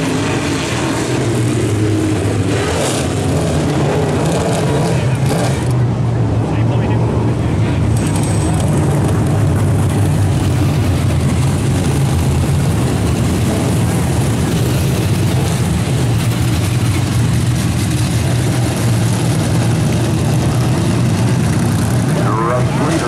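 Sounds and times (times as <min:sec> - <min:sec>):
race car engines droning: 0:00.0 - 0:23.0.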